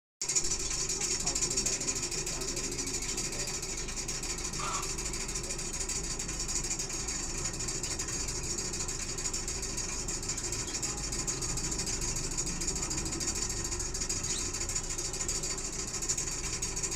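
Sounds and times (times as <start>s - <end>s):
motor hum: 0.2s - 16.9s.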